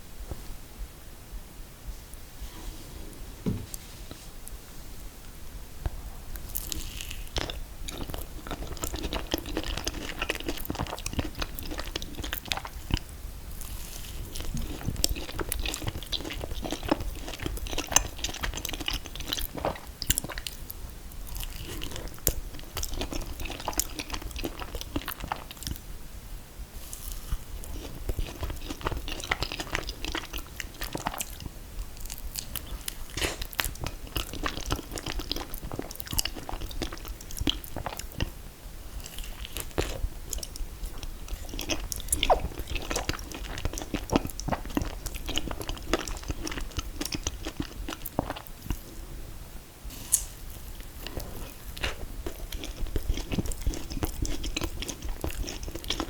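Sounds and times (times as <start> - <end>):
chewing and biting: 6.4 - 25.8, 27.0 - 38.4, 39.0 - 48.9, 50.1 - 56.0.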